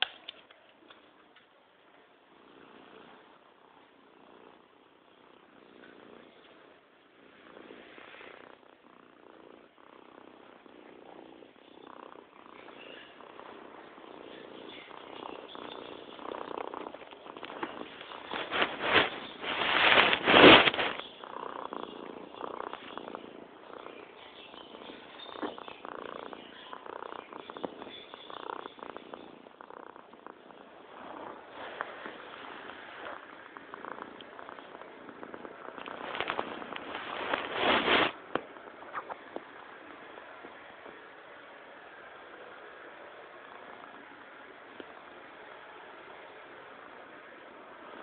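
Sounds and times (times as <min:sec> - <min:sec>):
cat purring: 0:00.0 - 0:48.0.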